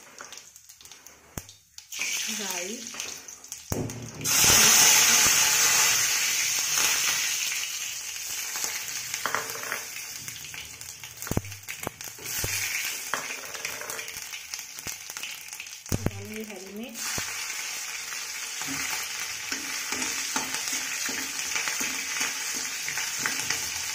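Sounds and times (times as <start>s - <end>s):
spices sizzling in hot oil: 0.0s - 23.9s.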